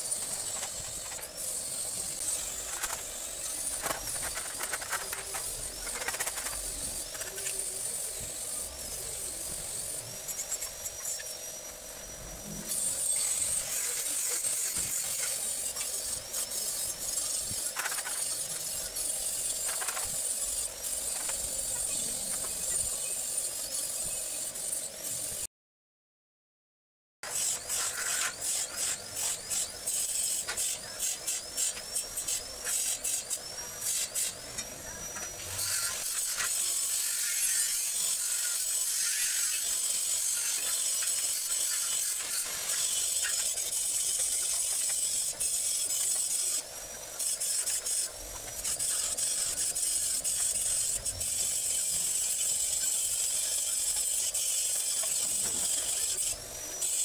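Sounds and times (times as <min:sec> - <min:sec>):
arc welding crackle: 0:00.0 - 0:23.5, 0:27.3 - 0:57.0.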